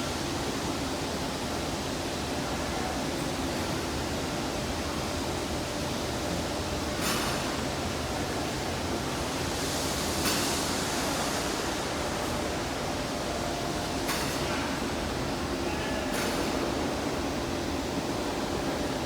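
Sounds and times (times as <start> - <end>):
machinery hiss and hum: 0.1 - 19.0.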